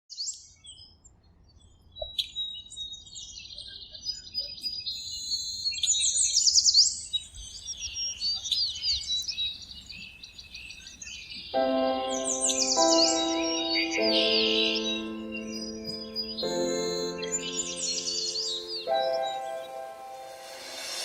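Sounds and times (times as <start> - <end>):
songbirds chirping and trilling: 0.2 - 21.0.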